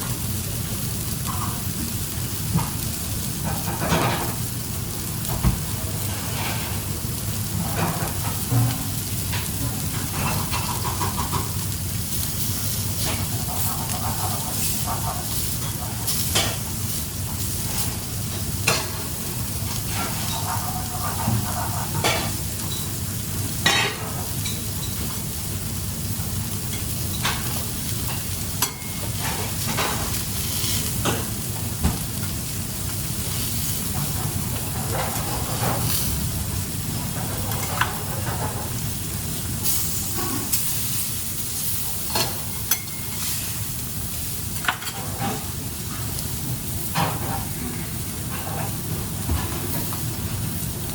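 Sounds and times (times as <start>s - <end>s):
food sizzling in a pan: 0.0s - 50.9s.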